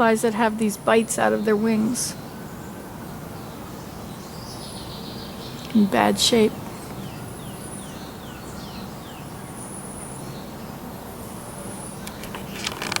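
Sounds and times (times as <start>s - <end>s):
woodland background: 0.0s - 13.0s.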